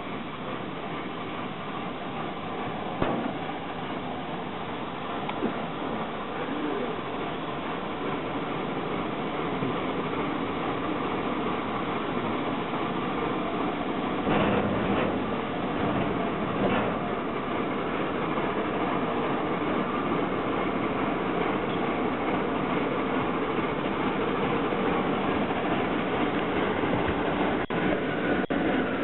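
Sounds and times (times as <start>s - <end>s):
steam locomotive rumble: 0.0s - 29.0s.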